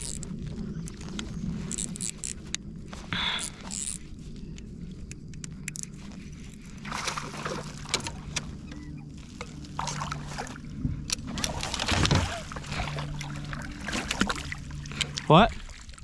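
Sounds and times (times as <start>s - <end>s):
water sloshing against kayak hull: 0.0s - 16.0s.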